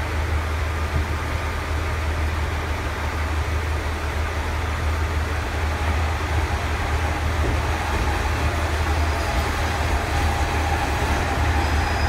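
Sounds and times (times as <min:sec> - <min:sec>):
diesel railcar idling: 0:00.0 - 0:12.0.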